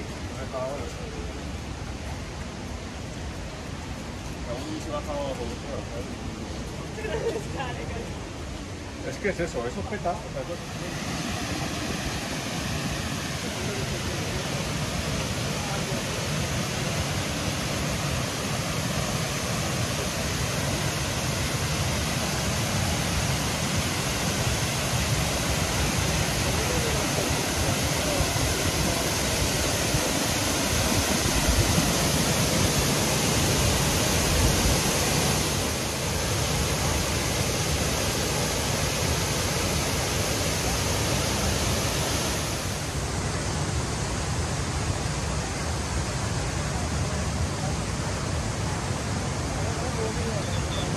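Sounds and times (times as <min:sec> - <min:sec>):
water rushing down waterfall: 0:00.0 - 0:50.9.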